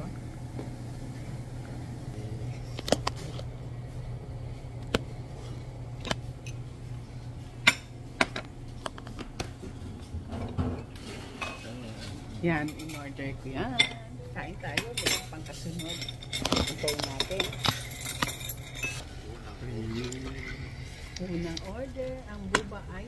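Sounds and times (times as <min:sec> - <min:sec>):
dining room hum: 0:00.0 - 0:23.0.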